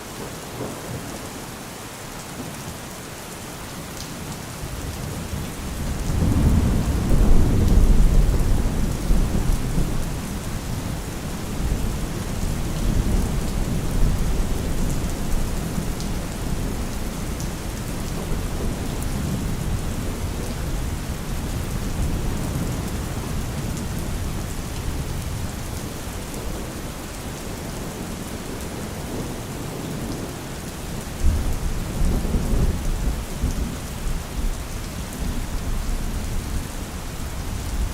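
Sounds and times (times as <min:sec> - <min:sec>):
steady rain: 0:00.0 - 0:37.9.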